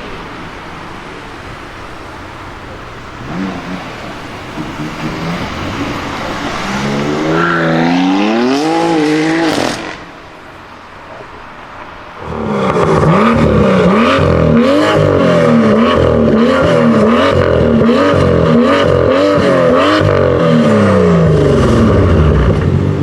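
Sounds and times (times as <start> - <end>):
car engine accelerating: 0.0 - 10.4, 12.2 - 23.0
road and exhaust rush: 0.0 - 23.0.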